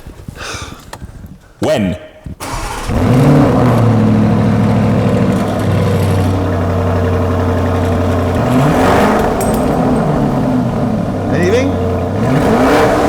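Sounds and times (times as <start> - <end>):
car engine revving: 2.4 - 13.0.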